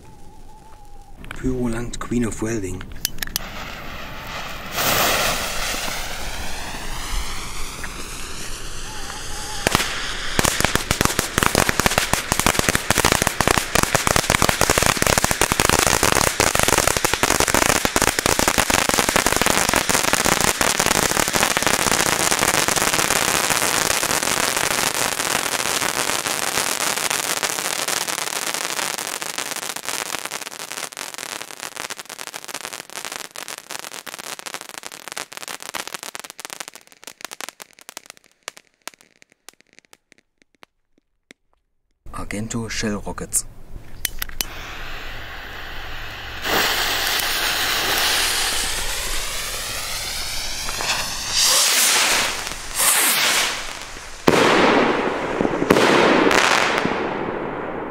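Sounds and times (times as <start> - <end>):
firework fountain crackling: 0.0 - 41.6, 44.2 - 57.9.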